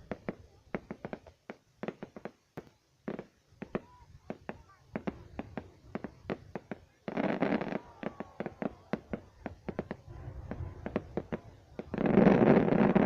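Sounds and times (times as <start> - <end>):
fireworks cracks and pops: 0.0 - 13.0.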